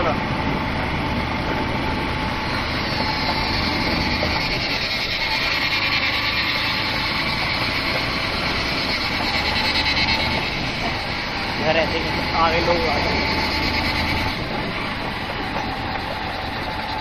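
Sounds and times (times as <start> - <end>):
motorcycle running: 0.0 - 17.0
wind noise on microphone: 0.2 - 17.0.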